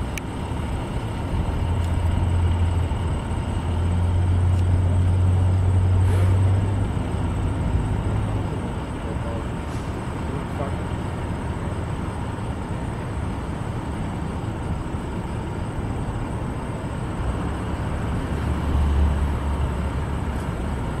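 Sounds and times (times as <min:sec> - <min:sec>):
outdoor noise: 0:00.0 - 0:21.0
truck engine rumble: 0:00.0 - 0:21.0.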